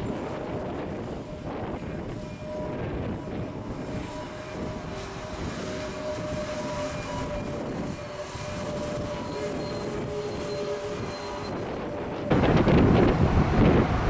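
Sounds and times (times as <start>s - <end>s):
jet engines whining: 0.0s - 14.0s
wind buffeting microphone: 0.0s - 14.0s.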